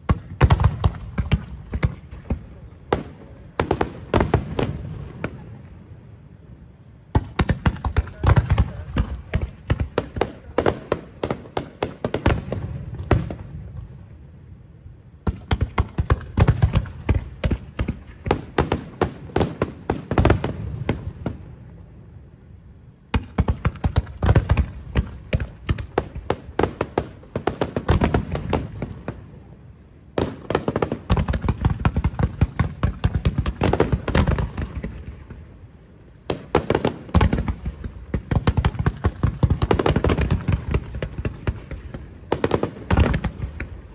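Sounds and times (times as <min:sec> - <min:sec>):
fireworks cracking and booming: 0:00.0 - 0:06.2, 0:07.0 - 0:14.3, 0:15.2 - 0:22.2, 0:23.1 - 0:43.9.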